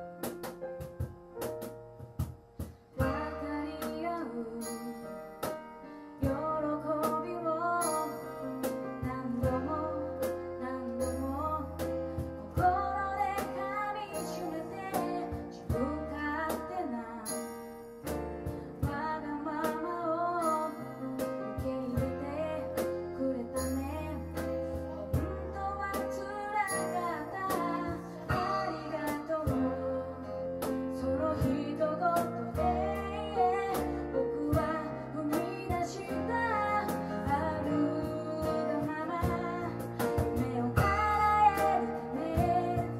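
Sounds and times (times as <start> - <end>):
acoustic guitar: 0.0 - 42.9
woman singing: 2.9 - 5.6, 6.2 - 17.6, 18.7 - 42.9.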